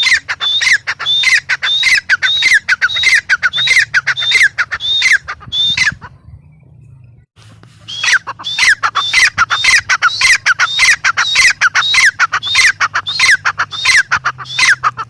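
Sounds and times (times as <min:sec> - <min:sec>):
francolin calling harshly: 0:00.0 - 0:06.1, 0:07.8 - 0:15.0.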